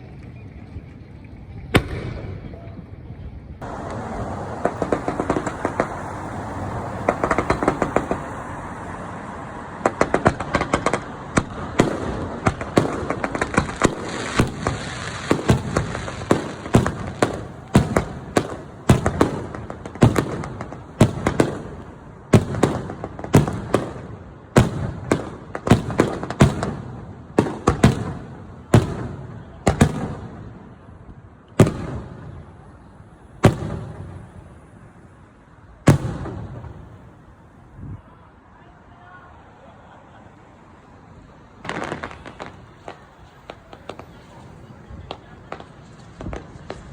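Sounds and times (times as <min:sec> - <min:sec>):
fireworks bangs and crackling: 0:01.6 - 0:03.0, 0:03.6 - 0:37.6, 0:41.2 - 0:46.9
rumble after firework bangs: 0:01.6 - 0:37.4, 0:41.6 - 0:46.9.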